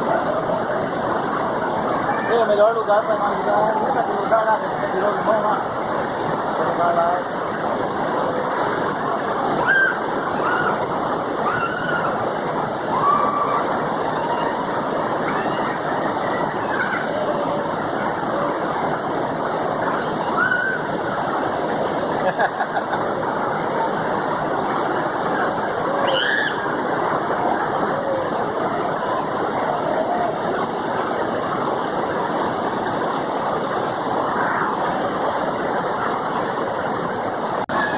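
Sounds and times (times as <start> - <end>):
stream water flowing: 0.0 - 37.9.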